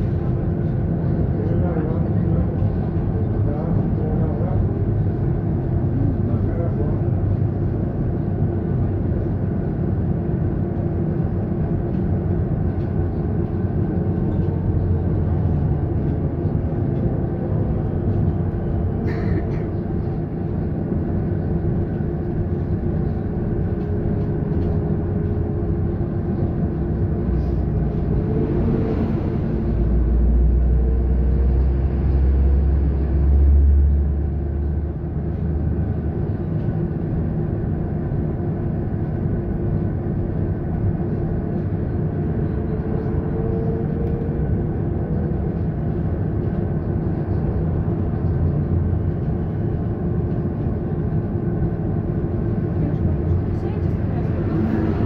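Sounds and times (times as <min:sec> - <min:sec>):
trolleybus interior rumble: 0:00.0 - 0:55.0.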